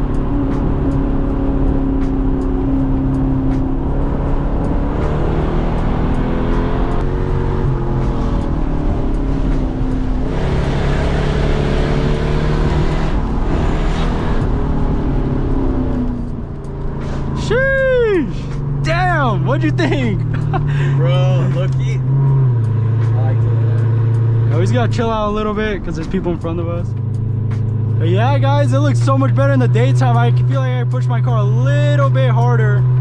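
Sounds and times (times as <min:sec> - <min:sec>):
car engine accelerating through gears: 0:00.0 - 0:33.0.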